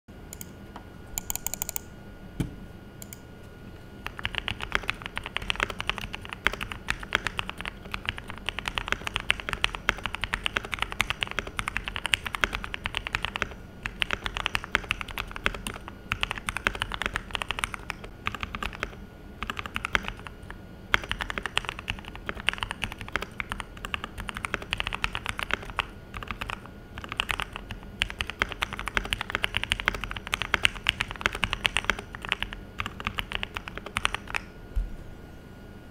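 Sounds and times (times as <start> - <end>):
fast mechanical keyboard typing: 1.2 - 1.8, 4.0 - 34.5.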